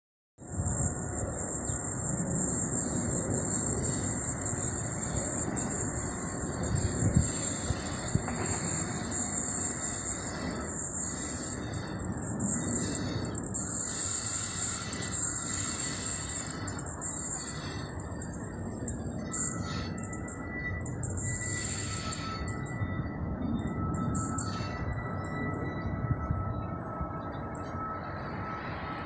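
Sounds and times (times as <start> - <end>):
train wheels rumbling on rails: 0.5 - 29.0.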